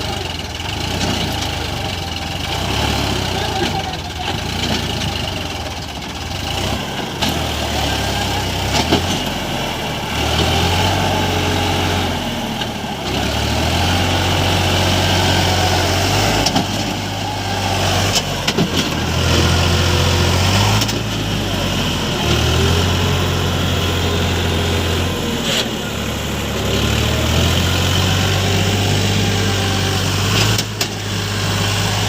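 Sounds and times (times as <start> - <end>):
diesel machinery engine running: 0.0 - 32.0.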